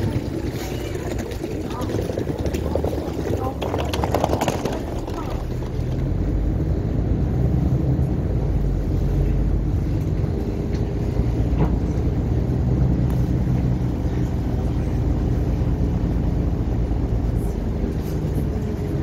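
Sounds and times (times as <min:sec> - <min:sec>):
buses idling: 0:00.0 - 0:19.0
road traffic rumble: 0:00.0 - 0:19.0.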